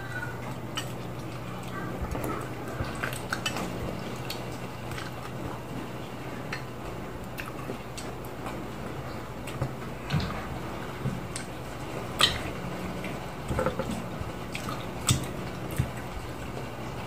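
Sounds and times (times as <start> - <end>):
steady low hum: 0.0 - 17.0
chewing mouth noises: 0.3 - 5.8, 6.4 - 10.4, 11.3 - 16.7.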